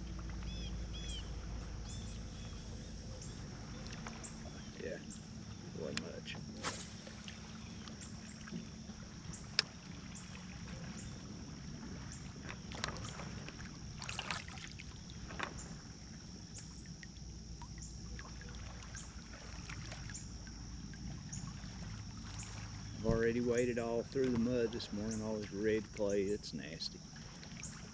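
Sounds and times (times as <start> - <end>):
low steady rumble: 0.0 - 27.9.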